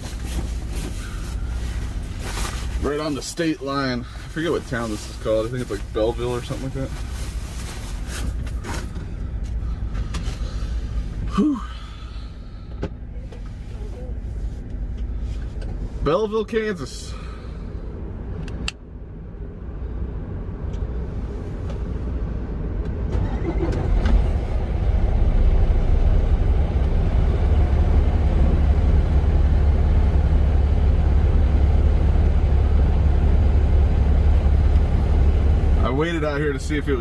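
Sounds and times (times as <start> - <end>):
road noise: 0.0 - 37.0
truck diesel engine rumble: 0.0 - 37.0.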